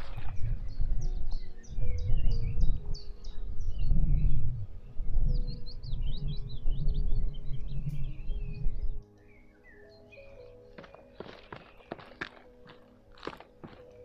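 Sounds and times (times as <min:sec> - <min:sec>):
songbirds chirping and twittering: 0:00.0 - 0:14.0.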